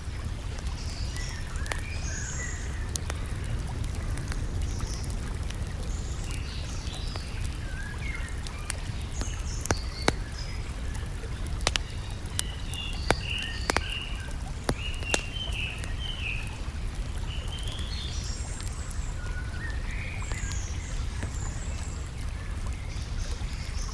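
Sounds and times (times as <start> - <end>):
campfire pops: 0.0 - 23.6
songbirds chirping: 0.0 - 23.9.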